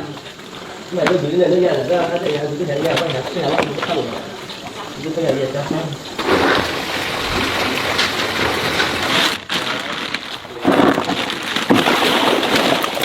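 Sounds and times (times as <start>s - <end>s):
water splashing and pouring: 0.0s - 13.0s.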